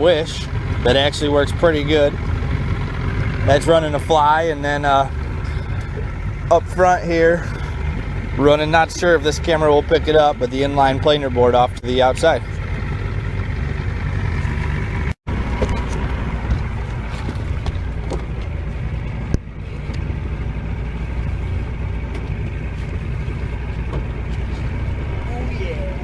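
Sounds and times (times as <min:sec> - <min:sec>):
boat motor droning: 0:00.0 - 0:26.0
water noise: 0:00.0 - 0:26.0.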